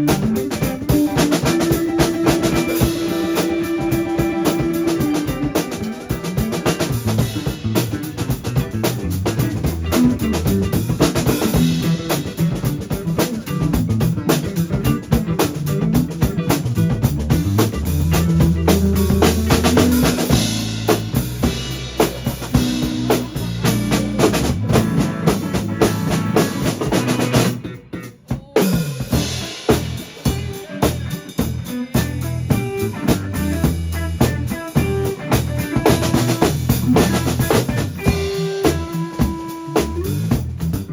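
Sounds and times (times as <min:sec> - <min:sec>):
band music: 0:00.0 - 0:40.9
drum kit playing a steady beat: 0:00.0 - 0:40.9.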